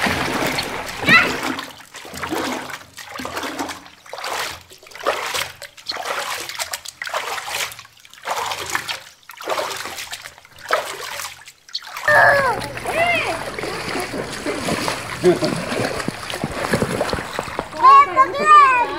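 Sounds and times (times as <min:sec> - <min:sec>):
pool water splashing: 0:00.0 - 0:18.9.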